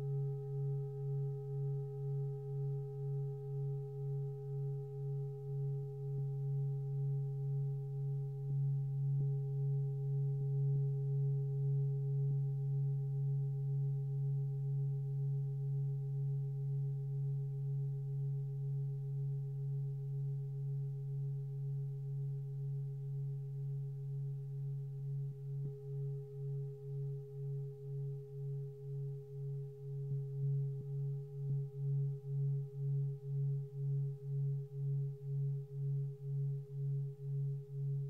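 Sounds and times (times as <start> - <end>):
singing bowl ringing with pulsing tone: 0.0 - 38.0.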